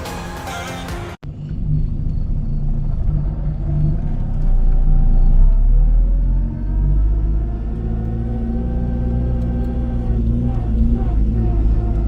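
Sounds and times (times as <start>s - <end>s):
car engine accelerating: 1.2s - 12.0s.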